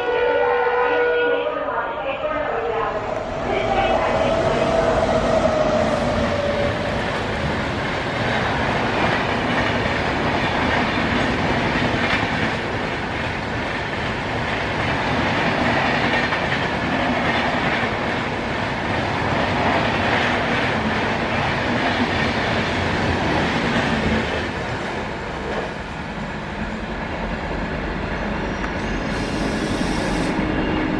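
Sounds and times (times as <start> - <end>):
passing train rushing: 0.0 - 30.9.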